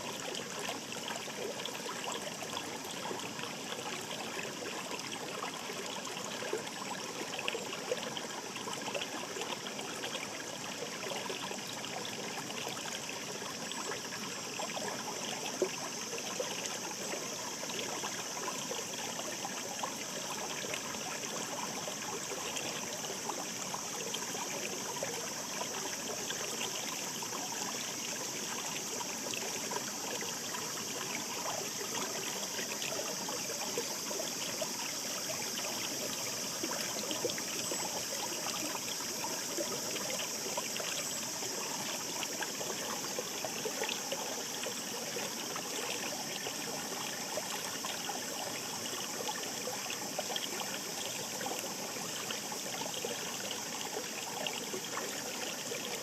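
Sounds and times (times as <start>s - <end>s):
river babbling over stones: 0.0s - 56.0s.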